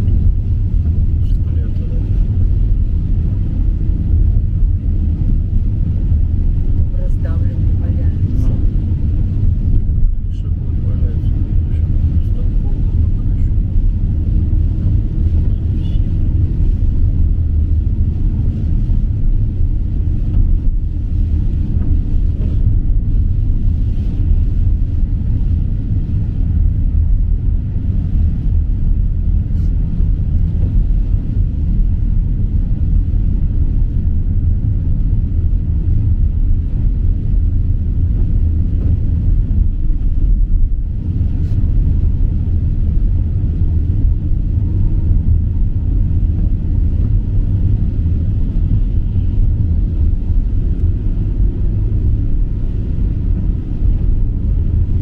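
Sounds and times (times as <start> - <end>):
vehicle engine and road drone: 0.0 - 55.0.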